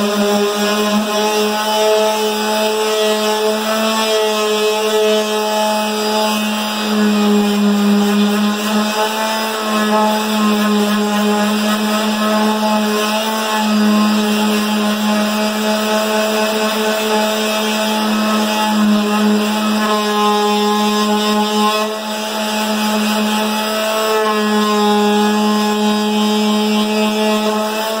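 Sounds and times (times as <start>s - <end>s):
electric palm sander running: 0.0s - 28.0s.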